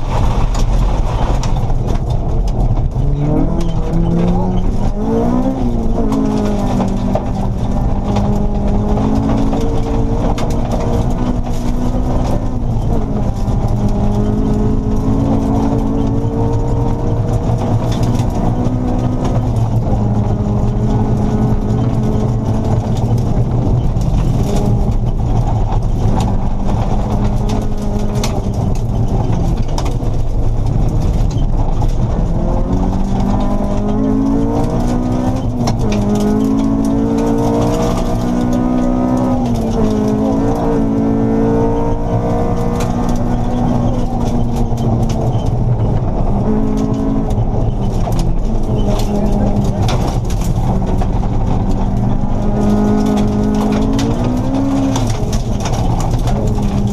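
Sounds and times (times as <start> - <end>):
rally car engine revving: 0.0 - 56.9
tyres on gravel: 0.0 - 56.9.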